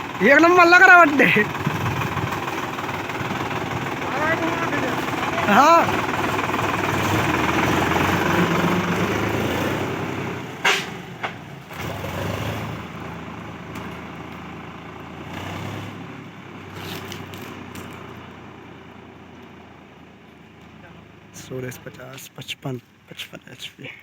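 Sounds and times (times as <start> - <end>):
tractor diesel engine running: 0.0 - 22.2.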